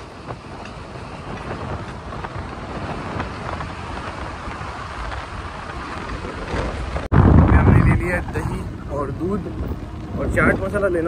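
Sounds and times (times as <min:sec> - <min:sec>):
vehicle moving on road: 0:00.0 - 0:11.0
wind on microphone: 0:00.0 - 0:11.0.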